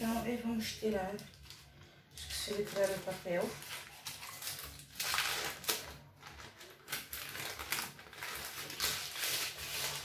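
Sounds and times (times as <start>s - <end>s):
baking paper rustling: 0.0s - 10.0s.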